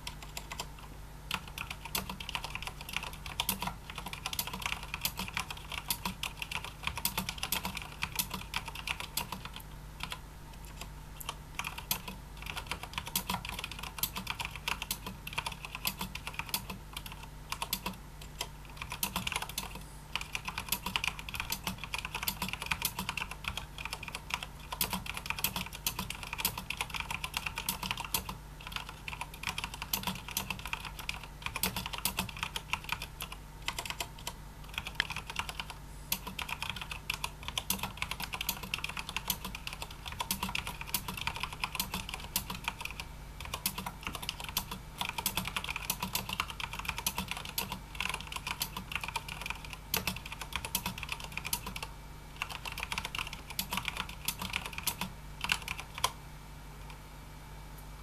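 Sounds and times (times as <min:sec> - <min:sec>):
typing on mechanical keyboard: 0:00.0 - 0:56.2.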